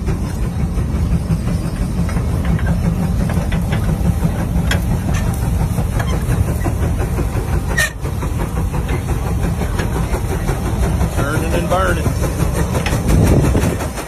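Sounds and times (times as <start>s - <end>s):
tractor engine rumbling under load: 0.0s - 14.0s.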